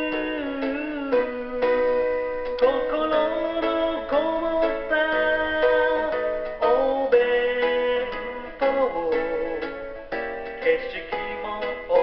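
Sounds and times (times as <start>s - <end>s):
person singing: 0.0s - 12.0s
song with plucked strings: 0.0s - 12.0s.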